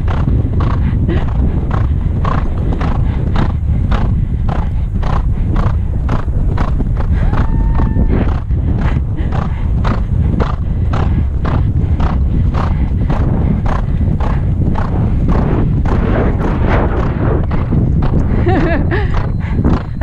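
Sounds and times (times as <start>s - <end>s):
horse breathing: 0.0s - 7.4s, 8.1s - 20.0s
horse galloping on grass: 0.0s - 20.0s
wind rumble on microphone: 0.0s - 20.0s.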